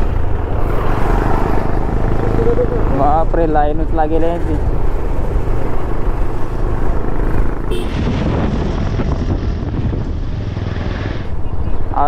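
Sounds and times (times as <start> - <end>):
motorcycle rumbling: 0.0 - 12.0
wind rushing over microphone: 0.0 - 12.0.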